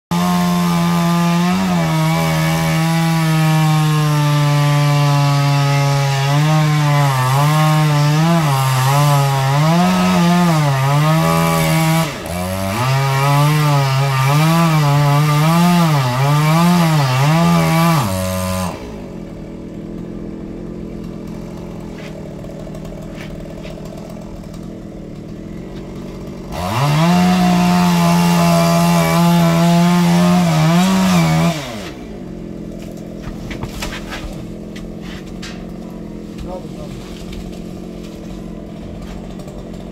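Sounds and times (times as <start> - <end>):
chainsaw cutting wood: 0.1 - 39.9.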